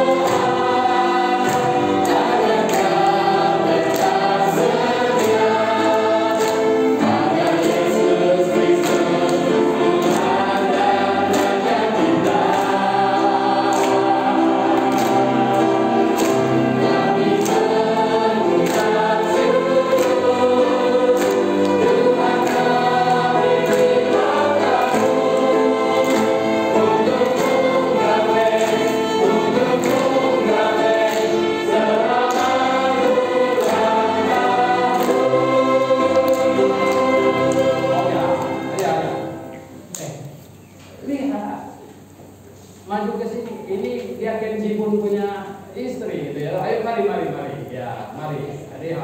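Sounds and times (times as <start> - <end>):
congregation singing a hymn: 0.0 - 40.0
hands clapping on the beat: 0.0 - 40.2.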